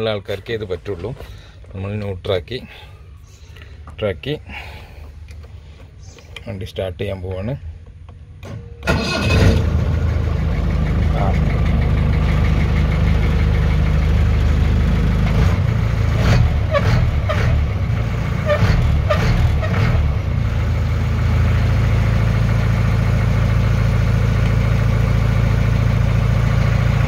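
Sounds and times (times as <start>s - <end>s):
diesel engine idling: 0.0s - 6.8s, 7.6s - 27.0s.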